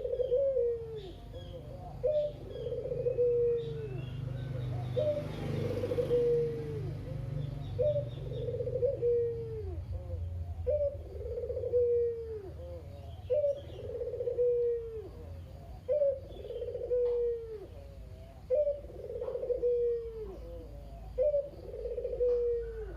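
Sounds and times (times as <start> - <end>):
dove cooing: 0.0 - 22.9
small birds chirping: 0.0 - 22.9.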